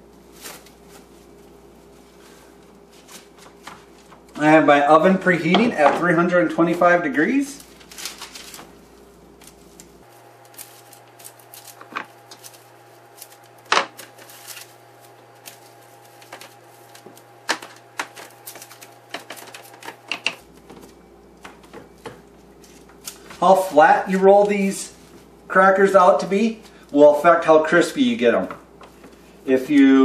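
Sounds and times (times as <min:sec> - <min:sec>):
plastic wrap and paper crinkling: 0:00.0 - 0:27.0.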